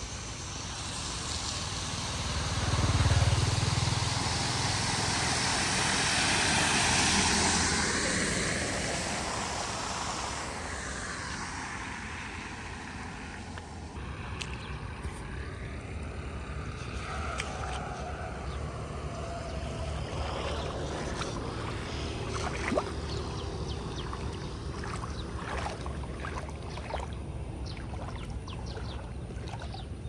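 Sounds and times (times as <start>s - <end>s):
tyres swishing through water: 0.0s - 15.4s, 16.2s - 30.0s
car engine passing: 0.9s - 29.9s.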